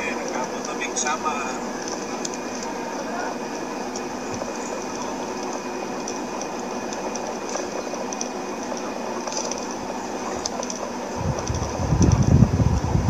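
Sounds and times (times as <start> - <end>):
faint steady tones: 0.0 - 13.0.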